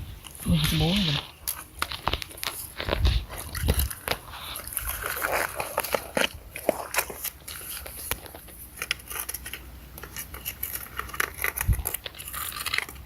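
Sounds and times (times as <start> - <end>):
stones and gravel scraping: 0.0 - 13.0.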